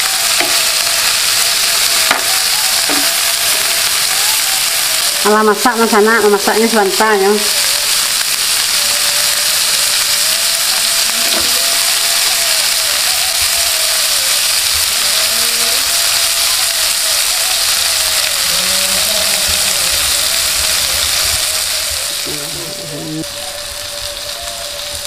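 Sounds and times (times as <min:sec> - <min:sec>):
shrimp sizzling in oil: 0:00.0 - 0:25.0.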